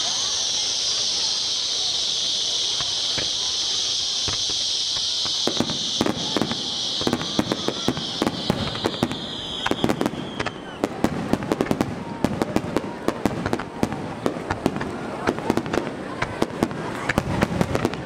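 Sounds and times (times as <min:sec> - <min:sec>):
firework fountains hissing: 0:00.0 - 0:18.0
fireworks bangs and crackles: 0:00.0 - 0:18.0.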